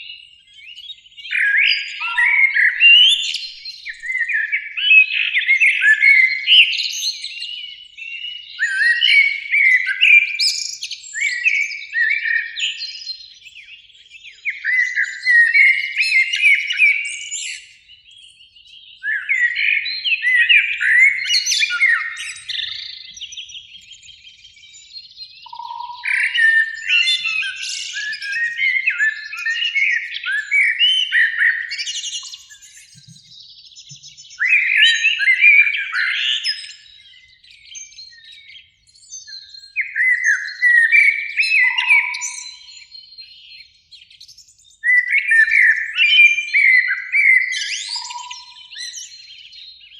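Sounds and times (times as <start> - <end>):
blackbirds singing: 0.0 - 49.9.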